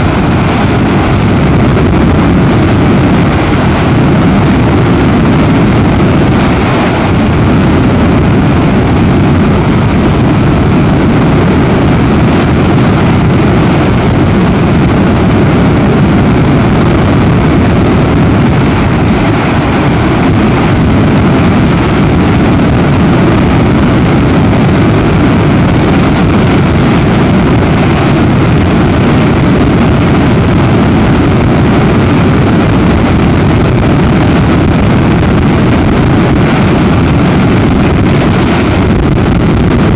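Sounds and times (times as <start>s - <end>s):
strong wind buffeting microphone: 0.0s - 39.9s.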